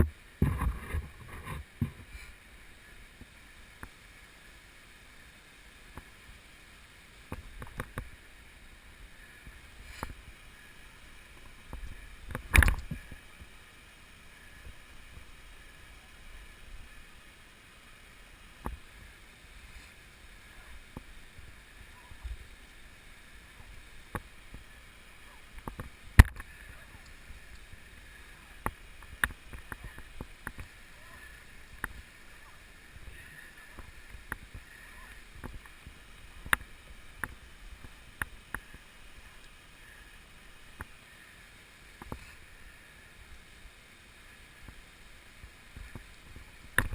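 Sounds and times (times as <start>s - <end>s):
faint steady background noise: 0.0s - 46.9s.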